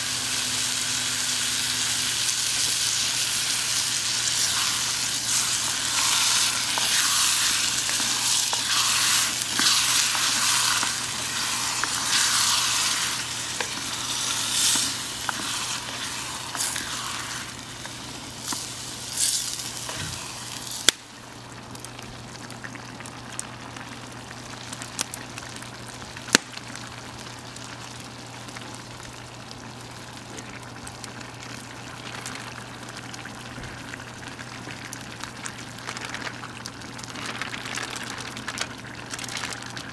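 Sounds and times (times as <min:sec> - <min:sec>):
tomatoes and onion sizzling: 0:00.0 - 0:39.9.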